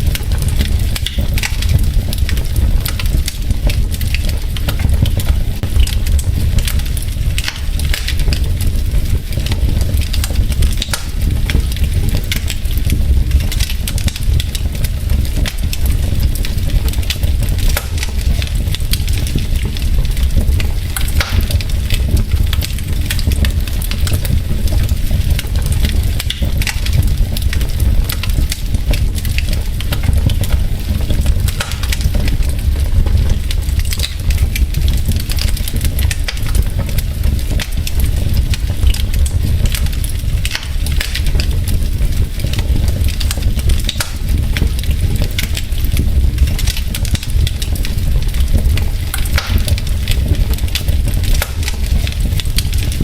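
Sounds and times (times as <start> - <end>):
burning logs crackling: 0.0 - 53.0
low rumble of flames: 0.0 - 53.0.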